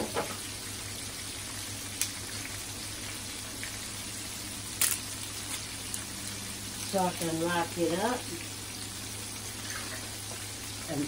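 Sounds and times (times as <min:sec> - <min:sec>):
frying oil sizzle: 0:00.0 - 0:11.0
sharp crackle of oil: 0:00.0 - 0:11.0.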